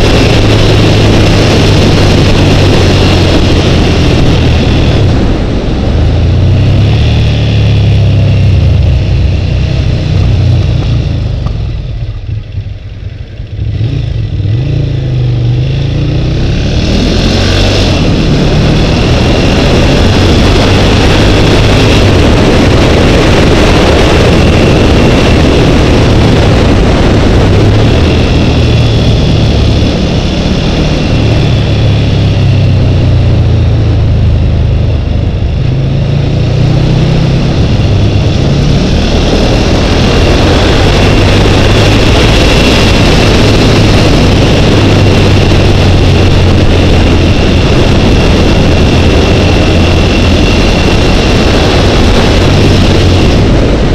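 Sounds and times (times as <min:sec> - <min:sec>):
motorcycle engine: 0:00.0 - 0:53.9
wind rush on microphone: 0:00.0 - 0:53.9.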